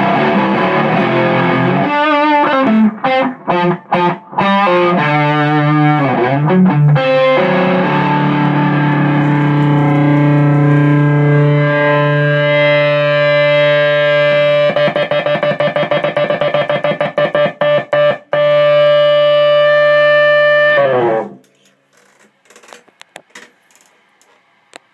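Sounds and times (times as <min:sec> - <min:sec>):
electric guitar: 0:00.0 - 0:21.6.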